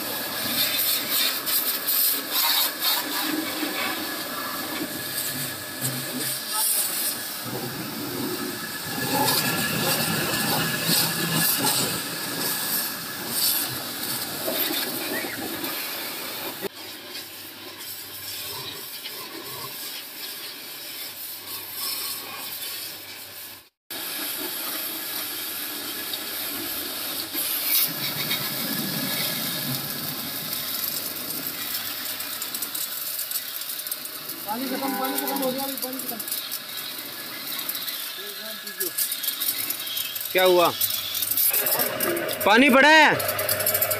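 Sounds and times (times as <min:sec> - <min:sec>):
hose water spraying on metal: 0:00.0 - 0:43.9.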